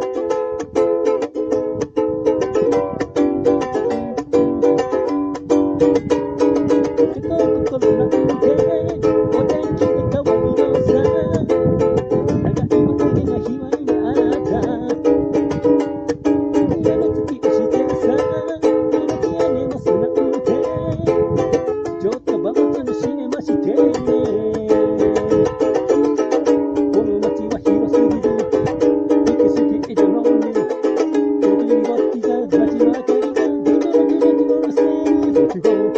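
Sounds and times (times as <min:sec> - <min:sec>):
ukulele strumming chords: 0:00.0 - 0:35.9.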